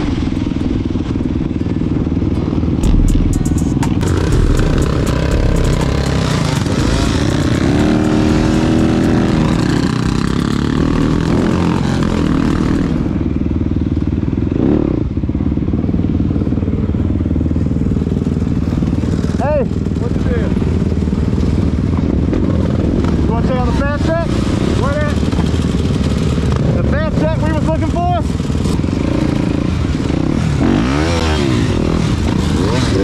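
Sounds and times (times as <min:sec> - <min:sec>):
dirt bike engine revving: 0:00.0 - 0:33.0
other dirt bikes running nearby: 0:00.0 - 0:33.0.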